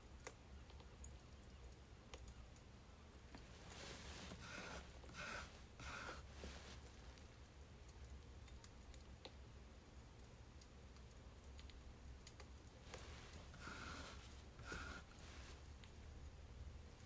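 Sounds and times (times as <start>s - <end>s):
low steady hum: 0.0s - 17.0s
wood fire crackling: 3.2s - 17.0s.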